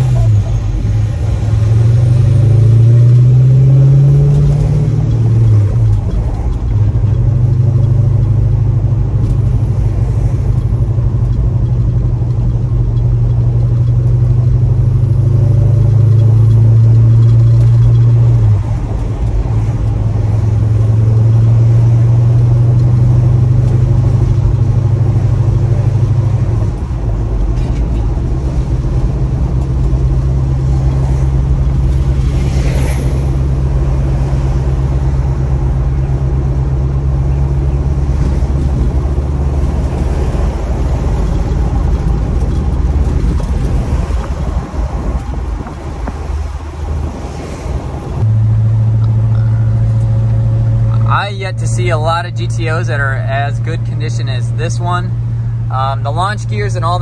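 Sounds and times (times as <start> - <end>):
car engine and exhaust running: 0.0 - 57.0.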